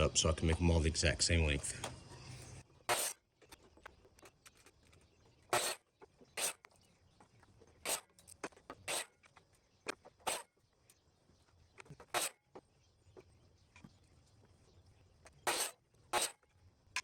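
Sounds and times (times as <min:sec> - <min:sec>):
faint scraping and ticking: 0:01.5 - 0:17.0.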